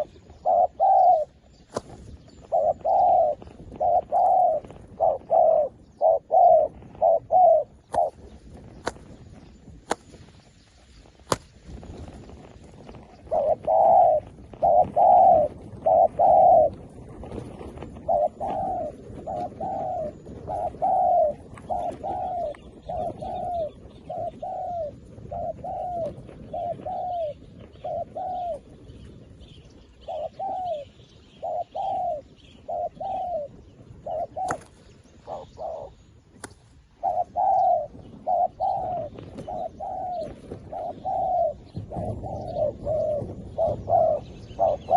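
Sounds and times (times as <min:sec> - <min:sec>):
dove cooing: 0:00.0 - 0:09.4, 0:11.8 - 0:44.9
small birds chirping: 0:00.0 - 0:44.9.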